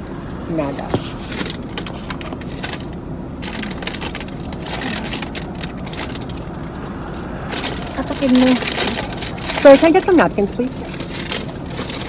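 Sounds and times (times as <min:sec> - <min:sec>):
car engine idling: 0:00.0 - 0:12.0
paper packaging rustling: 0:00.7 - 0:12.0.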